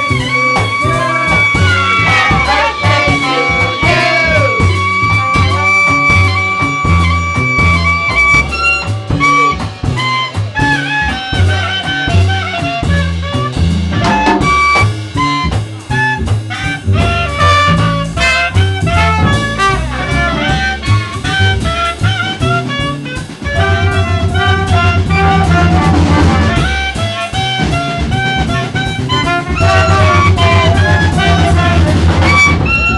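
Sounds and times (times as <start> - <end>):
clarinet melody: 0.0 - 32.9
drums: 0.0 - 32.9
saxophone melody: 0.0 - 32.9
walking bass: 0.0 - 32.9.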